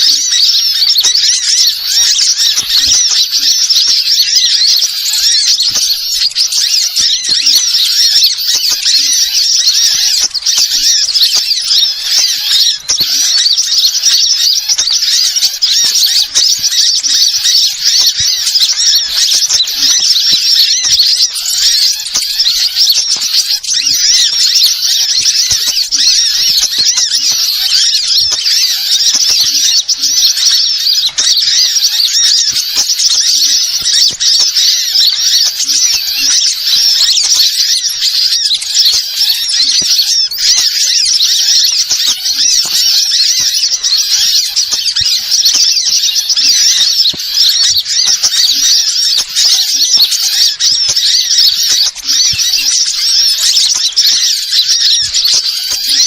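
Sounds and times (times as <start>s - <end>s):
high rapid bird chirps: 0.0s - 56.0s.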